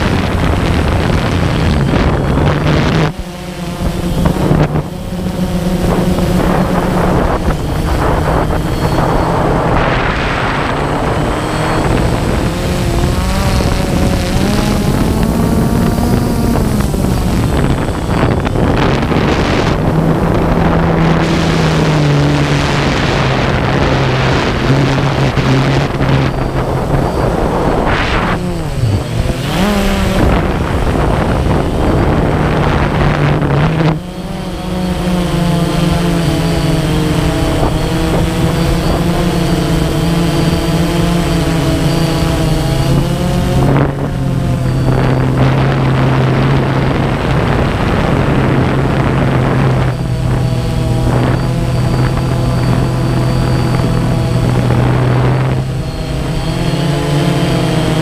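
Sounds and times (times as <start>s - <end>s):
drone propellers humming: 0.0s - 58.0s
wind noise: 0.0s - 58.0s.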